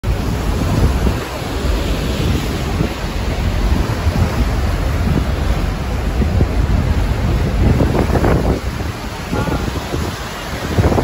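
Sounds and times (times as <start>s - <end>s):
river water churning: 0.0s - 11.0s
waterfall rushing: 0.0s - 11.0s
wind buffeting microphone: 0.0s - 11.0s.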